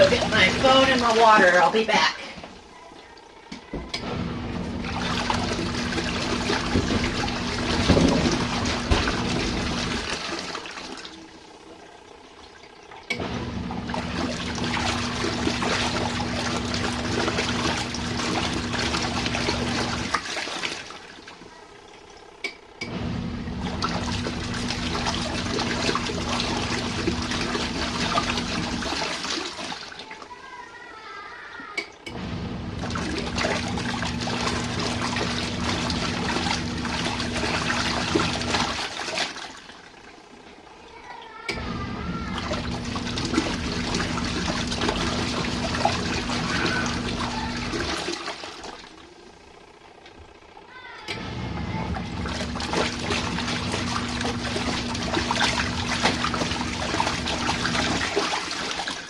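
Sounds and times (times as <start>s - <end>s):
washing machine motor hum: 0.0s - 59.0s
water churning: 0.0s - 59.0s.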